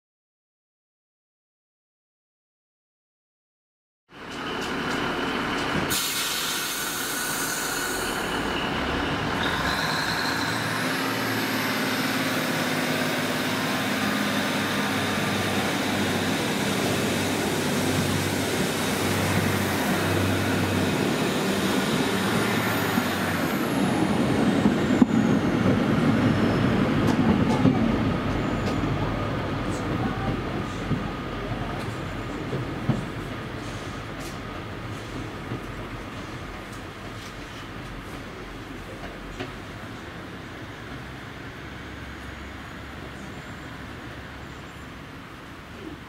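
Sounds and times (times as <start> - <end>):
diesel train engines running: 4.1 - 46.0.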